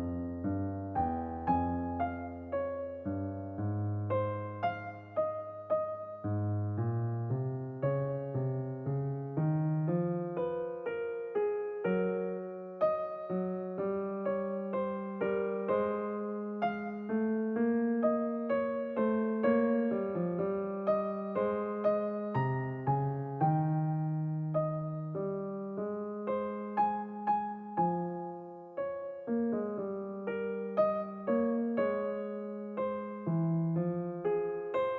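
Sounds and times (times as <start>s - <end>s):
gentle electric piano melody: 0.0s - 34.9s.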